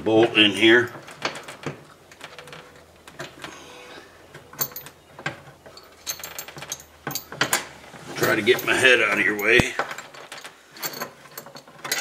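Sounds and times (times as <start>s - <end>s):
hand tools clicking and scraping: 0.1s - 12.0s.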